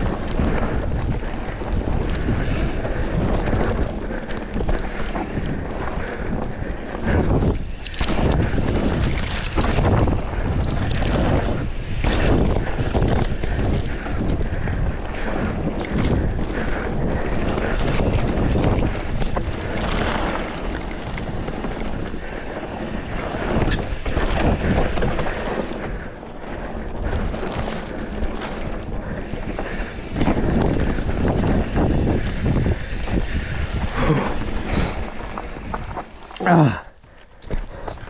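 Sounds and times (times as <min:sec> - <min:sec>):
bike clicks and rattles: 0:00.0 - 0:38.0
rumble: 0:00.0 - 0:38.0
wind buffeting microphone: 0:00.0 - 0:38.0.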